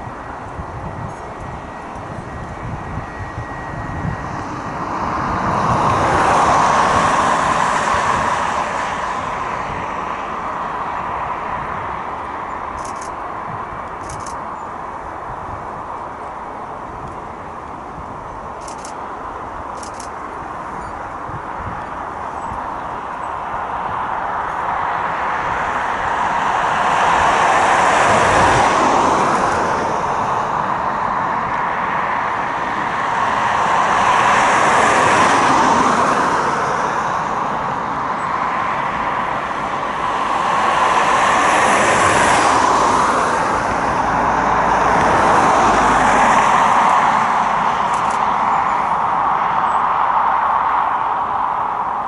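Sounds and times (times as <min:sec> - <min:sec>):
jet engines running: 0:00.0 - 0:52.0.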